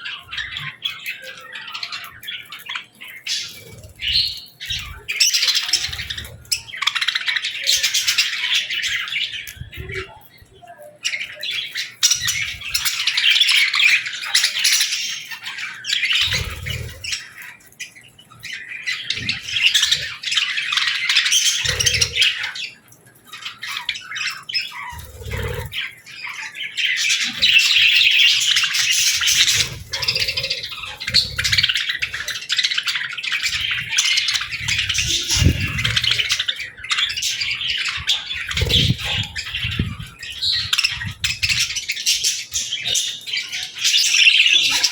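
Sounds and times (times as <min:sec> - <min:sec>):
budgies and lovebirds chattering: 0:00.0 - 0:44.9.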